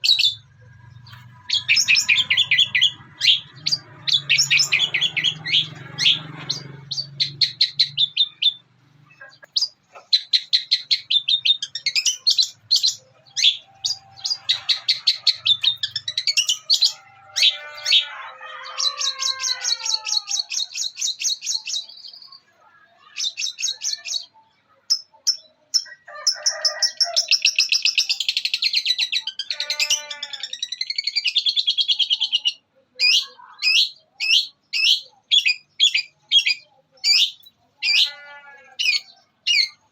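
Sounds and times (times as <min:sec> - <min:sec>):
bird chattering and trilling: 0:00.0 - 0:39.9.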